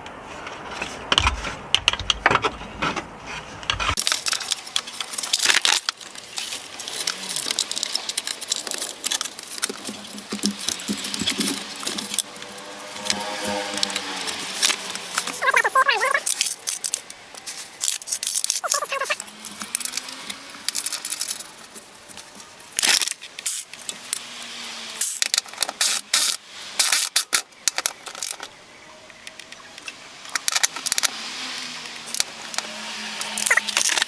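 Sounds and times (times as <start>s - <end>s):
metal parts clinking and rattling: 3.7s - 28.5s, 29.3s - 34.0s.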